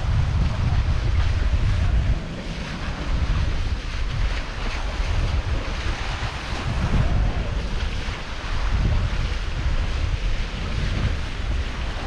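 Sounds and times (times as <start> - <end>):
sea waves washing past hulls: 0.0 - 12.0
wind buffeting microphone: 0.0 - 12.0.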